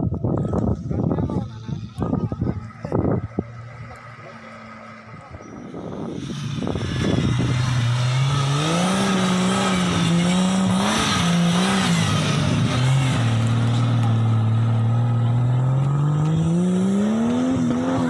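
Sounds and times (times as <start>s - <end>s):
off-road vehicle engine revving: 0.4s - 18.0s.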